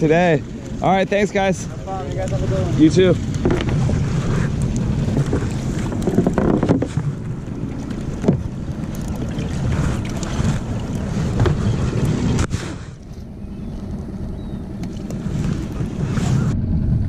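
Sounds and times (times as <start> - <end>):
steady low rumble: 0.0 - 17.0
wind buffeting microphone: 0.0 - 17.0.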